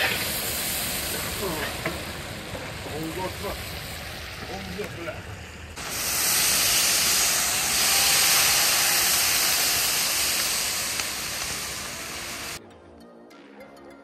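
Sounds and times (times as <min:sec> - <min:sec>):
cauldron sizzling hiss: 0:00.0 - 0:12.6.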